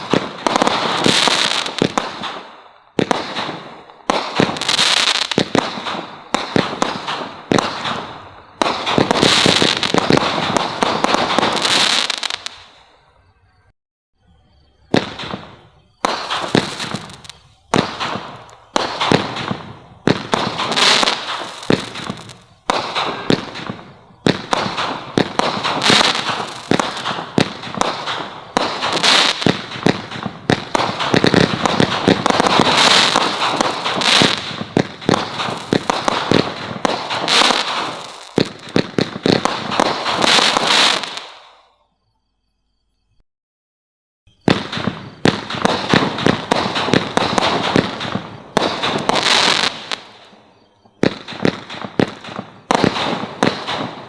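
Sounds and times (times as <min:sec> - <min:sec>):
fireworks crackling: 0:00.0 - 0:12.9, 0:14.8 - 0:41.6, 0:44.3 - 0:54.0
fireworks shots and bursts: 0:00.0 - 0:12.9, 0:14.8 - 0:41.7, 0:44.3 - 0:54.0.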